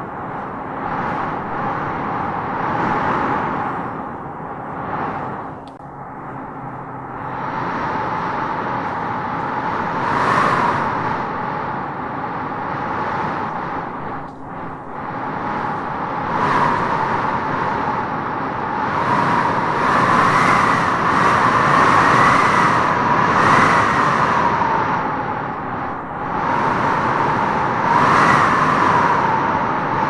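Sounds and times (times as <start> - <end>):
wind howling in gusts: 0.0 - 30.0.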